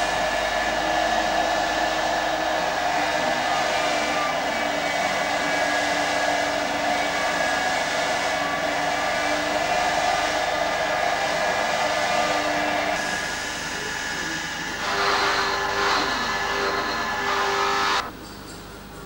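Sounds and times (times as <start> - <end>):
power polishing tool whirring: 0.0 - 18.1.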